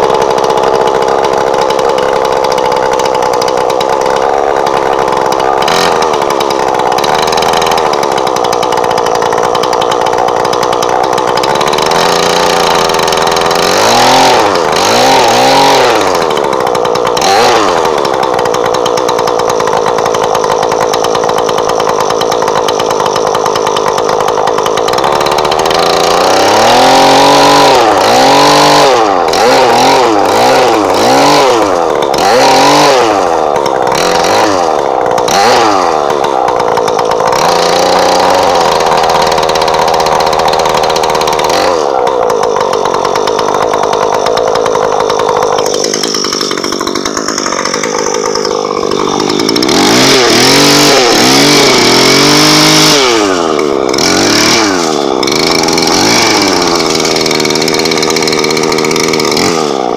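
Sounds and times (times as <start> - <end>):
two-stroke brushcutter engine revving: 0.0 - 59.9.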